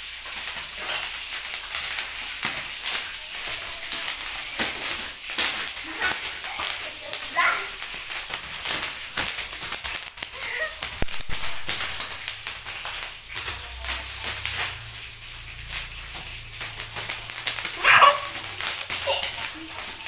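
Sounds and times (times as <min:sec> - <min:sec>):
bubble wrap popping under feet: 0:00.4 - 0:20.0.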